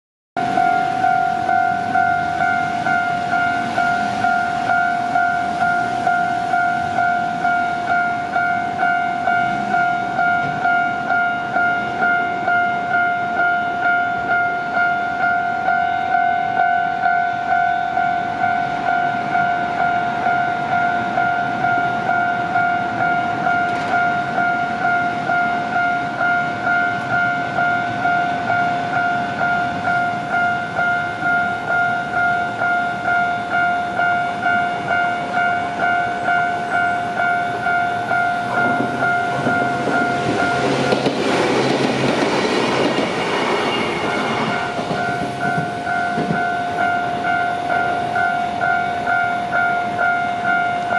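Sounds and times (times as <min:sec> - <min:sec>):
level crossing bell clanging: 0:00.4 - 0:50.9
train wheels rumbling on rails: 0:00.4 - 0:50.9.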